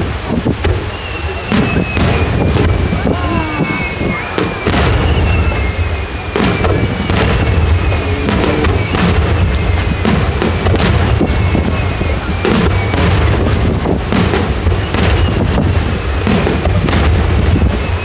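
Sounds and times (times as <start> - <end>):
fireworks booming and crackling: 0.0 - 18.0
deep rumble: 1.5 - 18.0.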